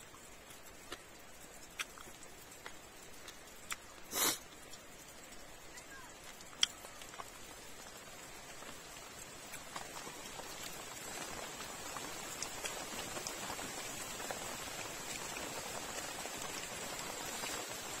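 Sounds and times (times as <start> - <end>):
steady rain hissing: 0.0 - 18.0
water drips ticking: 0.0 - 18.0.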